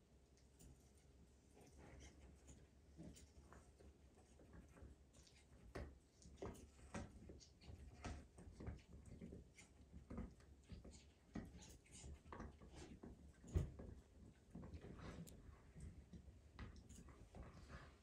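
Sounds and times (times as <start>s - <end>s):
dogs chewing rubber toys: 1.6s - 17.8s.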